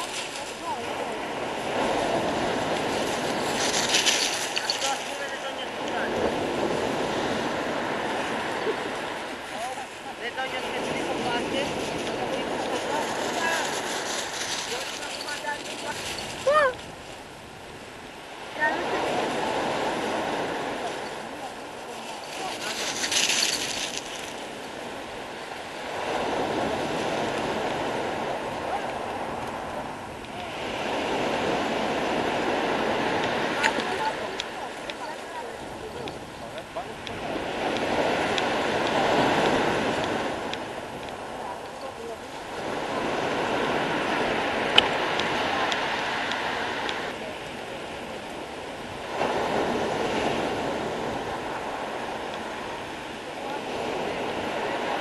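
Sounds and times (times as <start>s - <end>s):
waves breaking on pebble beach: 0.0s - 55.0s.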